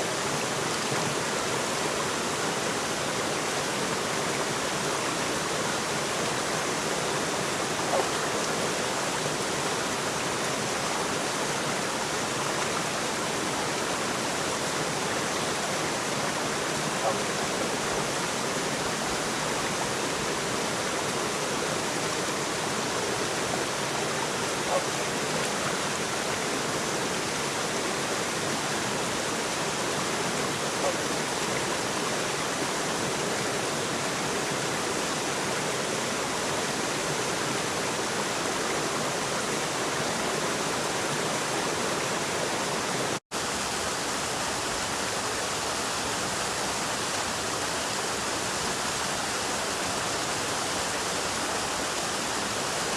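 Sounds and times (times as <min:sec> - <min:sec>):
water rushing: 0:00.0 - 0:52.9.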